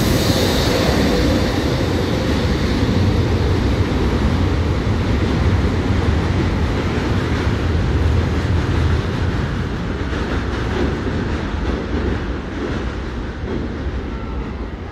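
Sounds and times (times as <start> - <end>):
train rumbling over rails: 0.0 - 14.9.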